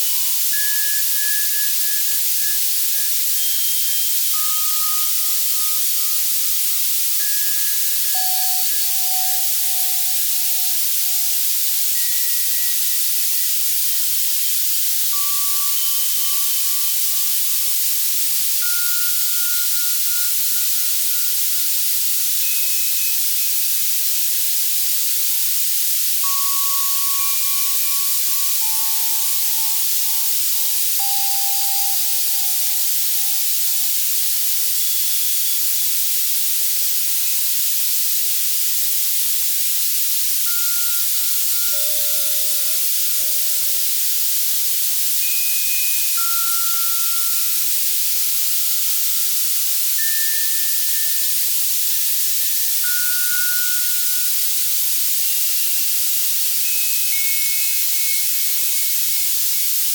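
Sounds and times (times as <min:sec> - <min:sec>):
soft bell tones: 0:00.0 - 0:24.3, 0:26.2 - 0:35.6, 0:40.5 - 0:54.8, 0:56.6 - 0:59.9
synthesizer white noise hiss: 0:00.0 - 0:59.9.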